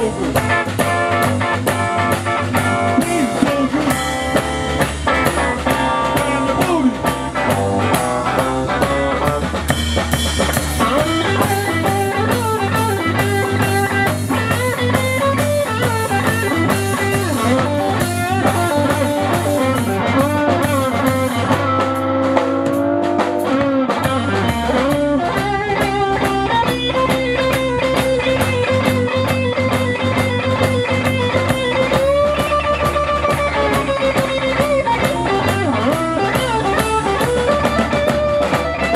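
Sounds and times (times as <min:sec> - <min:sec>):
blues-rock band playing: 0:00.0 - 0:38.9
electric guitar lead: 0:00.0 - 0:38.9.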